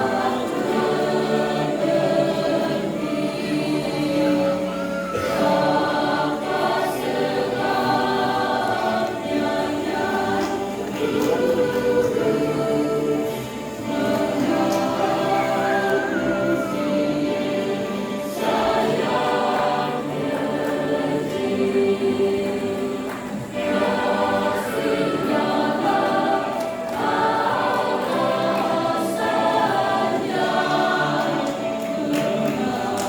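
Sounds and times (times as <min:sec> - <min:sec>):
choir singing a hymn: 0:00.0 - 0:33.0.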